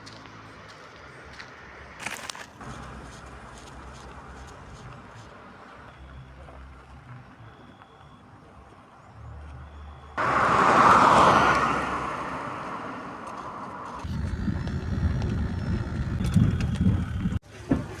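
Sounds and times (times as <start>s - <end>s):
moving vehicle hum: 0.0s - 18.0s.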